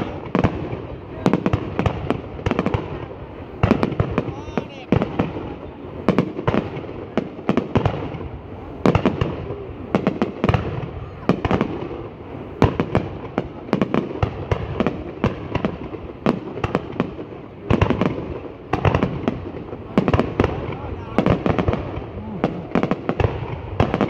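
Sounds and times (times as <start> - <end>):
continuous background noise: 0.0 - 24.0
fireworks bangs: 0.0 - 24.0.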